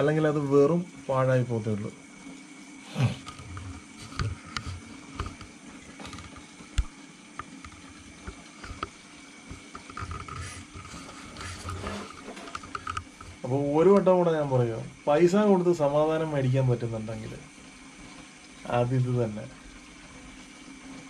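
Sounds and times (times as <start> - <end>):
aquarium low hum: 0.0 - 21.0
faint water trickling: 0.0 - 21.0.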